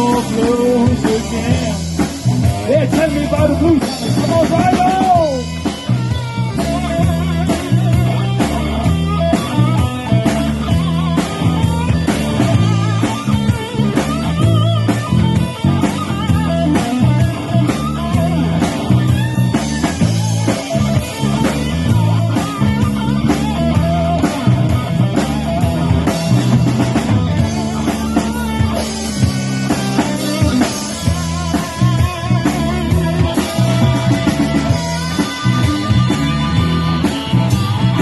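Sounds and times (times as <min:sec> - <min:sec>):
bass: 0:00.0 - 0:38.0
drum kit: 0:00.0 - 0:38.0
electric guitar: 0:00.0 - 0:38.0.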